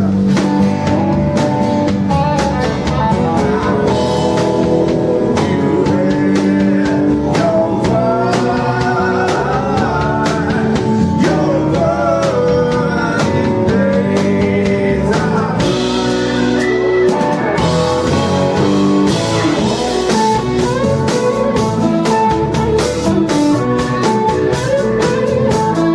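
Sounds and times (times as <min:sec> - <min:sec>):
drum kit beat: 0:00.0 - 0:25.9
live rock band playing: 0:00.0 - 0:25.9.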